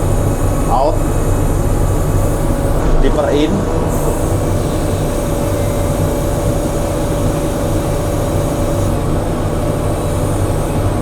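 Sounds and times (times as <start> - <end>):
hydraulic whine: 0.0 - 9.2.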